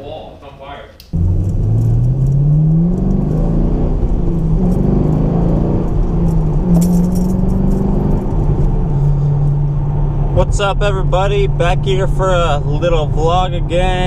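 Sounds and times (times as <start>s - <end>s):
car engine accelerating: 1.1s - 14.0s.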